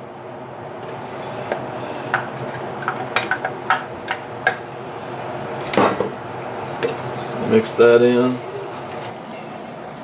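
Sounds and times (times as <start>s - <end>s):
low sizzle from pan: 0.0s - 10.0s.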